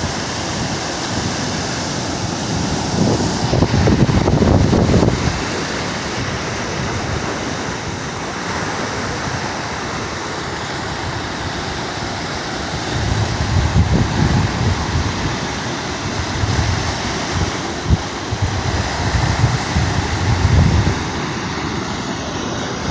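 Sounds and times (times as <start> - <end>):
ocean surf washing in: 0.0 - 22.9
wind buffeting microphone: 0.0 - 22.9.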